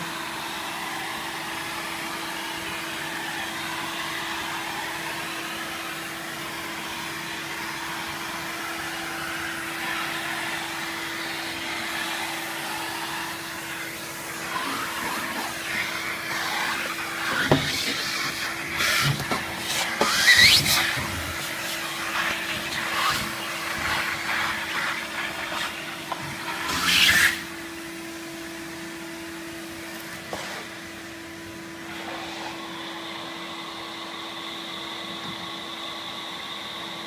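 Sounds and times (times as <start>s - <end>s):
vacuum cleaner humming: 0.0s - 37.0s.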